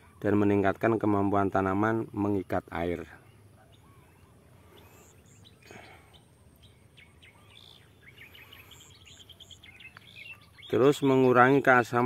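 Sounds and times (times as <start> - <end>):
low background hiss: 0.0 - 12.0
small birds chirping: 0.0 - 12.0.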